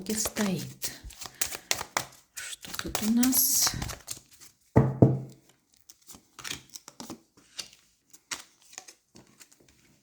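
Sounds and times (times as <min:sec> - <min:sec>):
cards clicking and rustling: 0:00.0 - 0:04.6, 0:05.3 - 0:10.0.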